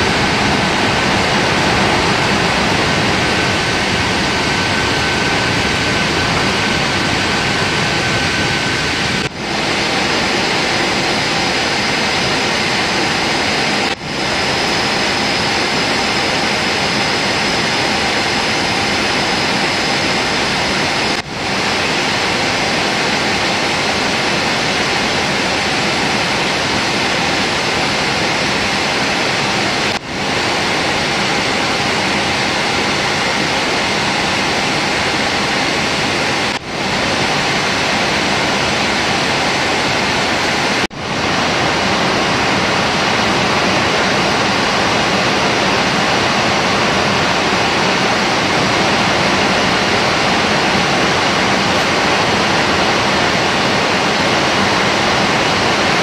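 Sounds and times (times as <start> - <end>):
airliner cabin engine and airflow noise: 0.0 - 56.0
faint steady whine: 0.0 - 56.0.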